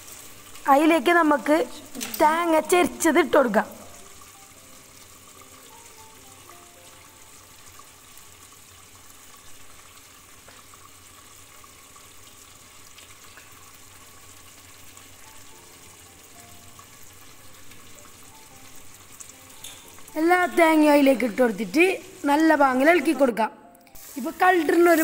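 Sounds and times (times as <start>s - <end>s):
pot hissing on gas stove: 0.0s - 23.3s, 23.9s - 25.0s
faint slow background music: 0.1s - 25.0s.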